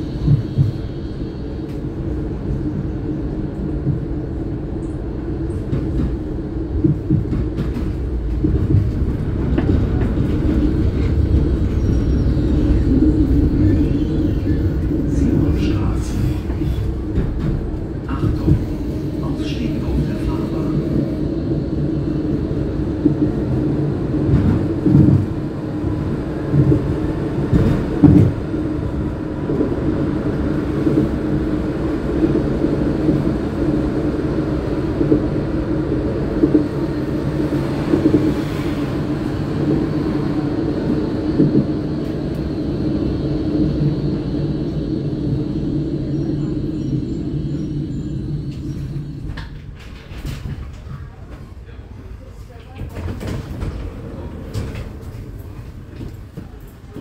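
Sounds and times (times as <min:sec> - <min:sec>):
tram rumbling: 0:00.0 - 0:57.0
tram thumps: 0:00.0 - 0:57.0.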